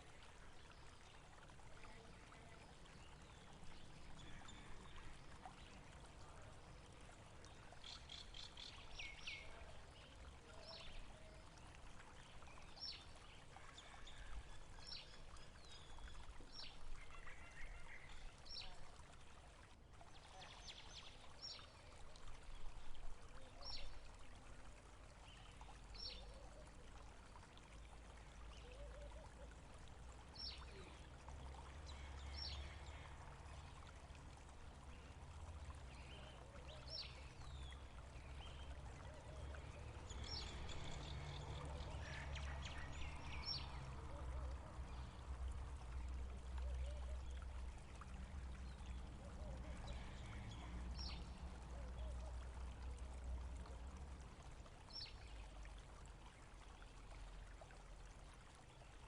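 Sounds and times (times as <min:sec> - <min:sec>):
faint running water: 0:00.0 - 0:59.0.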